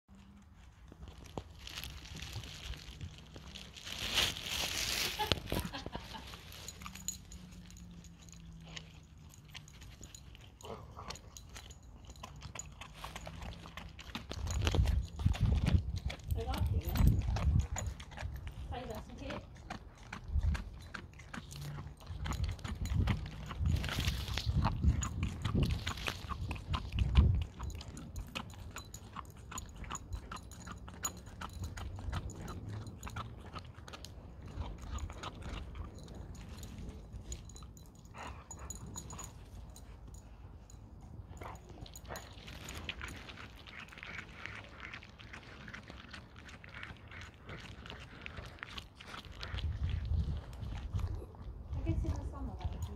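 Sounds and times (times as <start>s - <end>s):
dog licking and chewing: 0.1s - 52.9s.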